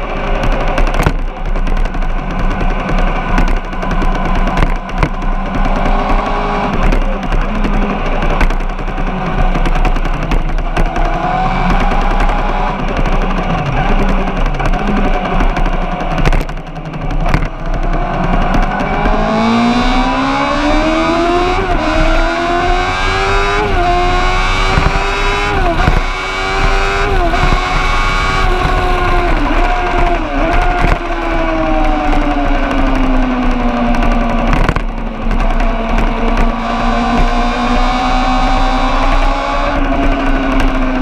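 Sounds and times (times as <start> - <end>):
racing engine accelerating: 1.8 - 41.0.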